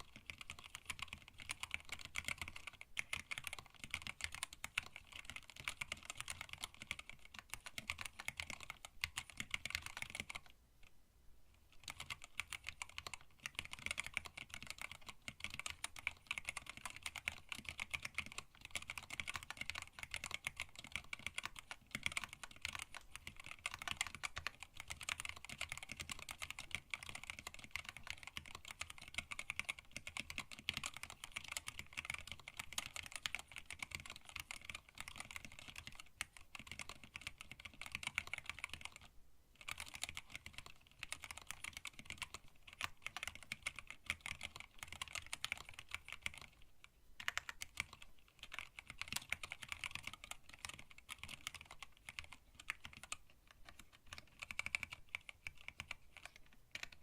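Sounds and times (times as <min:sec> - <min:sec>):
fast typing on mechanical keyboard: 0:00.0 - 0:10.5, 0:11.7 - 0:57.0.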